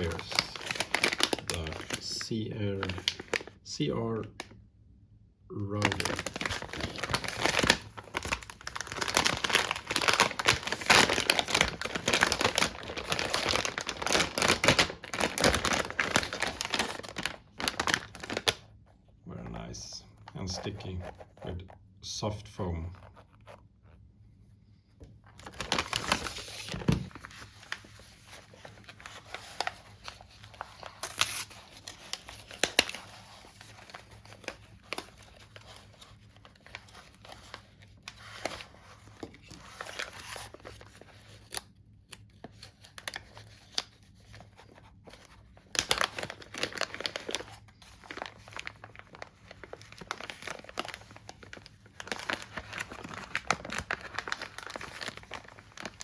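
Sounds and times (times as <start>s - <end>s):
packaging crinkling and tearing: 0.0s - 3.6s, 5.7s - 18.8s, 25.3s - 56.0s.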